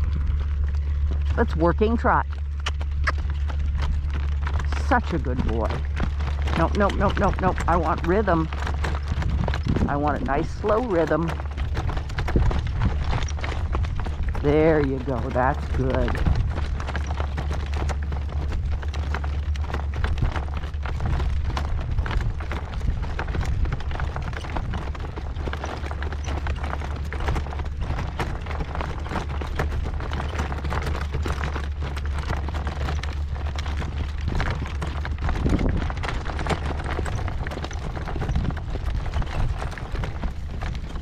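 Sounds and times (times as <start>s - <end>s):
horse hooves trotting: 0.0s - 41.0s
wind rumbling on microphone: 0.0s - 41.0s.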